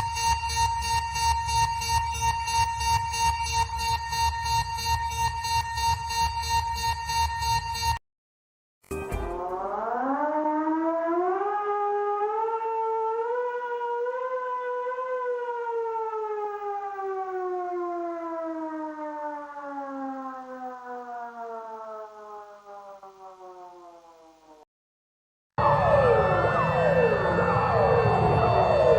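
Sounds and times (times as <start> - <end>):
civil defense siren winding: 0.0 - 8.0, 9.4 - 24.6, 25.6 - 28.9.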